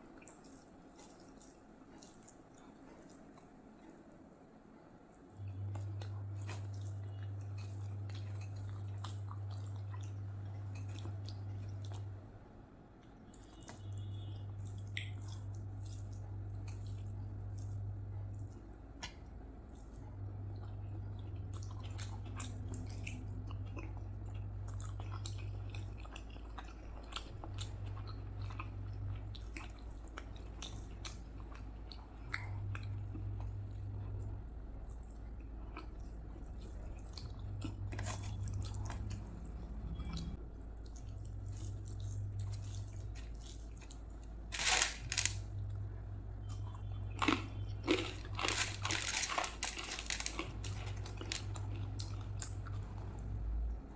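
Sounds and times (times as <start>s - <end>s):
wet chewing sounds: 0.0s - 4.4s, 5.0s - 12.3s, 13.0s - 45.8s, 46.4s - 53.9s
steady low hum: 0.0s - 53.9s.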